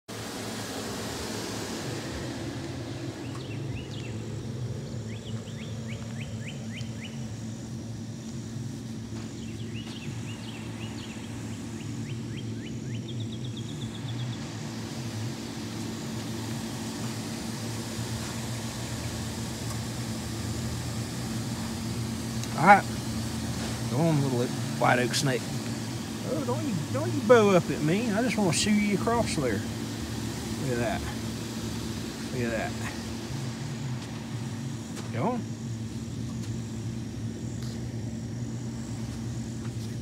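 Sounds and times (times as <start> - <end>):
vehicle engine idling: 0.1 - 40.0
birds chirping and trilling: 2.0 - 40.0.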